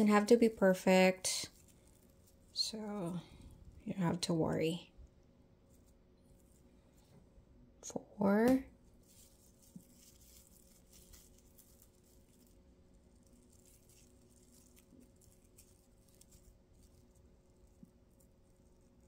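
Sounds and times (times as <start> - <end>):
tinsel pipe cleaner crackling: 0.0 - 7.1, 8.4 - 19.0.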